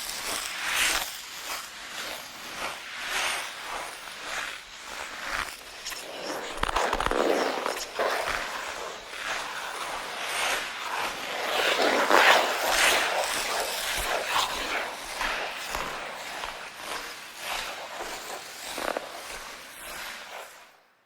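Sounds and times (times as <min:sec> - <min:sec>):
ice skates scraping on ice: 0:00.0 - 0:20.8.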